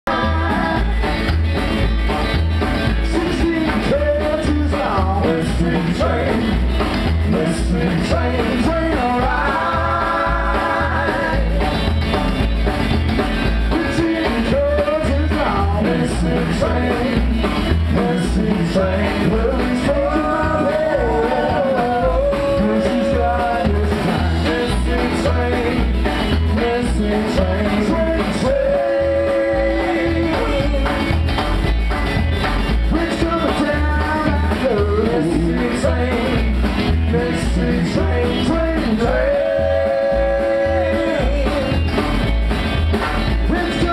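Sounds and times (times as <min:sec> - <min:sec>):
upright double bass: 0:00.0 - 0:43.9
man singing: 0:00.1 - 0:01.0, 0:03.0 - 0:06.6, 0:07.2 - 0:11.8, 0:13.6 - 0:31.2, 0:32.8 - 0:41.9, 0:43.4 - 0:43.9
drum kit beat: 0:00.1 - 0:43.9
electric guitar: 0:00.1 - 0:43.9.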